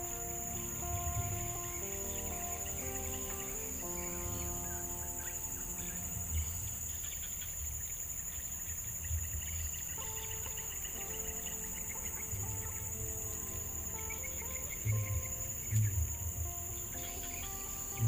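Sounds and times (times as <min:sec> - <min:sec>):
insects droning in grass: 0:00.0 - 0:18.0
low uneven rumble: 0:00.0 - 0:18.0
soft background music: 0:00.0 - 0:18.0.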